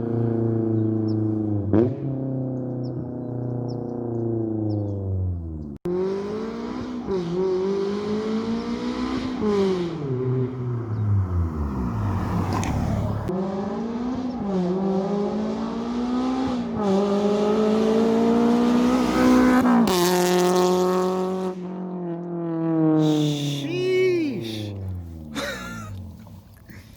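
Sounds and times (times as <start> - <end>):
car engine accelerating hard: 0.0 - 23.3.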